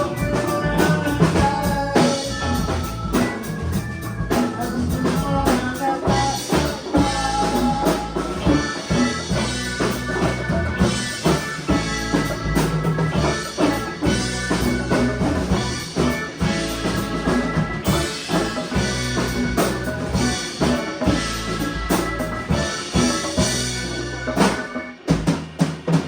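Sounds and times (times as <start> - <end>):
band playing a song: 0.0 - 26.0
drum kit beat: 0.0 - 26.0.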